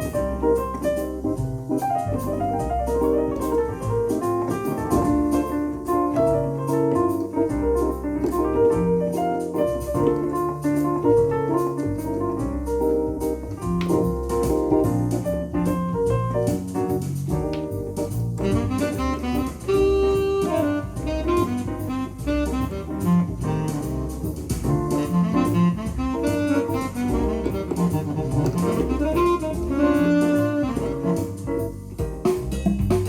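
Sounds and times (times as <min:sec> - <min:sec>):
keyboard piano voice: 0:00.0 - 0:32.9
bass line: 0:00.0 - 0:33.0.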